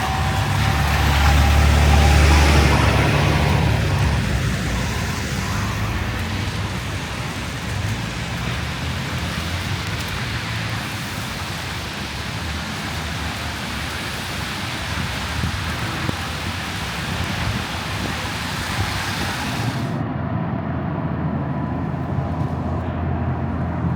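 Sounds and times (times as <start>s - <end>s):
strong wind rushing: 0.0s - 23.9s
wind buffeting microphone: 0.0s - 23.9s.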